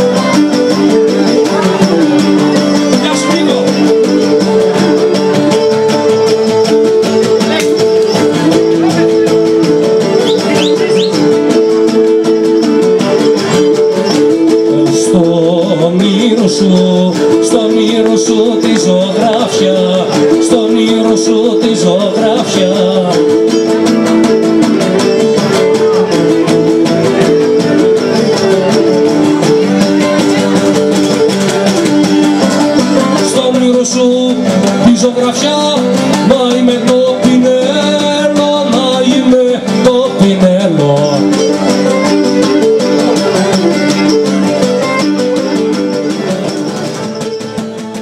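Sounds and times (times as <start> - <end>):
strummed lutes: 0.0 - 48.0.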